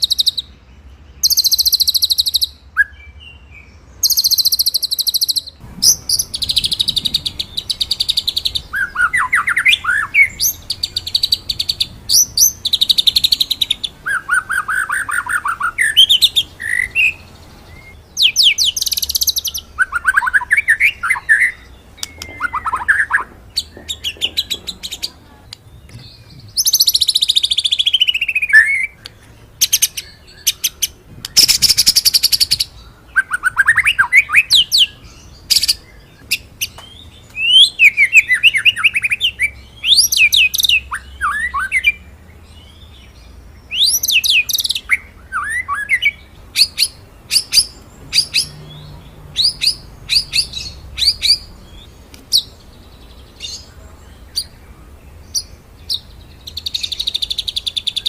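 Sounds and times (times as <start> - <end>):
bird singing trills and whistles: 0.0 - 58.0.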